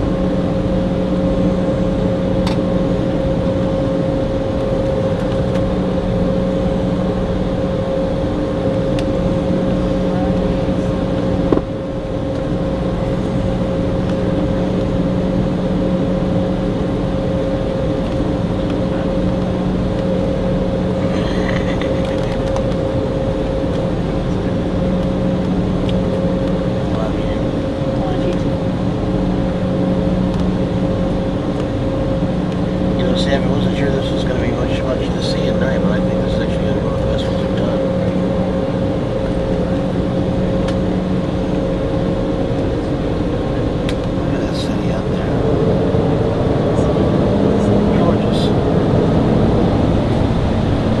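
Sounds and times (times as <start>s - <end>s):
airliner cabin drone: 0.0s - 51.0s.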